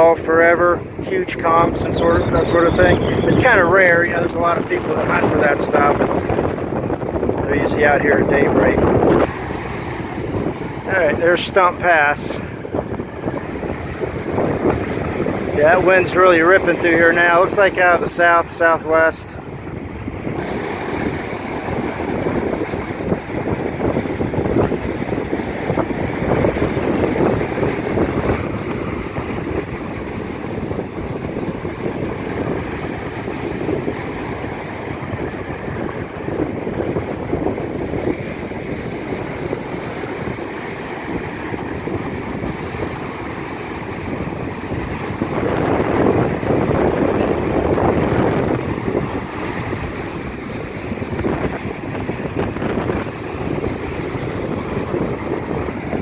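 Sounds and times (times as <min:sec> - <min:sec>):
gusty wind buffeting microphone: 0:00.0 - 0:56.0
surf on beach: 0:00.0 - 0:56.0.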